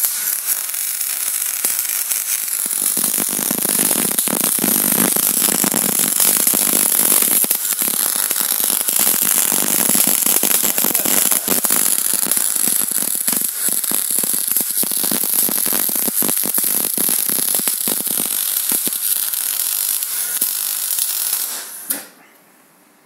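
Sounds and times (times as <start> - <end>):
arc welding crackle and hiss: 0.0 - 22.2.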